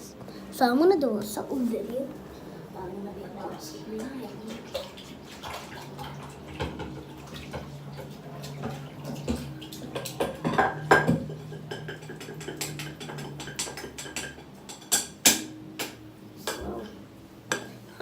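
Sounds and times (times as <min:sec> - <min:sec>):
steady low hum: 0:00.0 - 0:18.0
water: 0:00.0 - 0:18.0
dishes and utensils clattering: 0:03.4 - 0:18.0.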